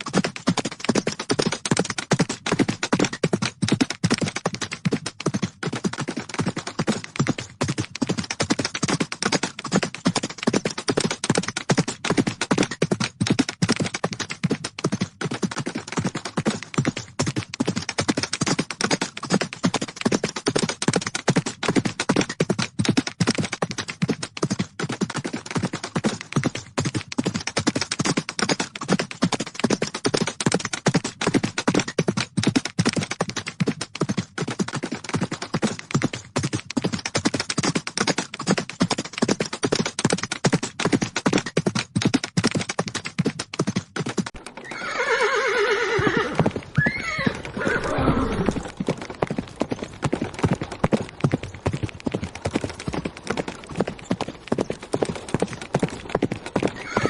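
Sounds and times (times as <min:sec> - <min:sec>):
horses galloping: 0:00.0 - 0:57.0.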